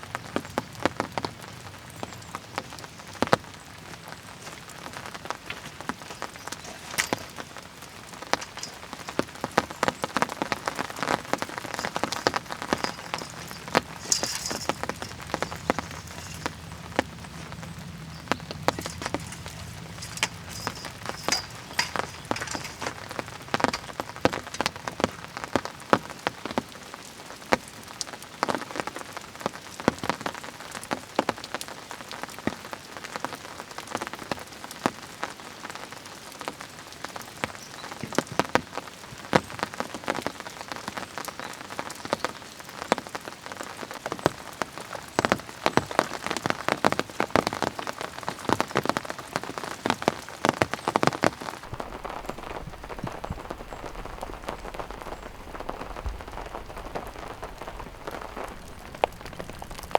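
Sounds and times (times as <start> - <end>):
rain falling: 0.0 - 59.9
raindrops tapping close by: 0.0 - 59.9.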